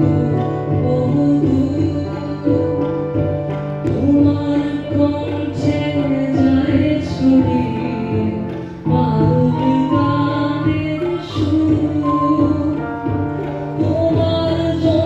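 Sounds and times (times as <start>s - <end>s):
tabla: 0.0s - 15.0s.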